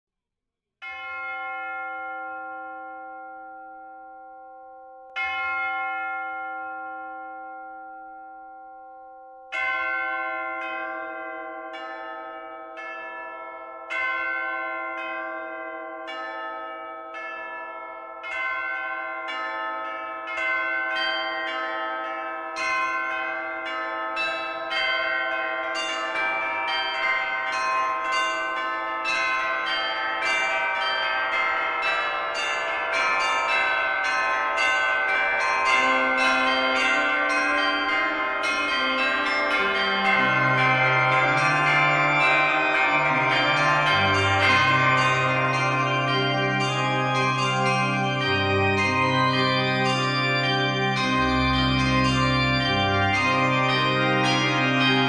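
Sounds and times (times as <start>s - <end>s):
clock bell striking: 9.5s - 55.0s.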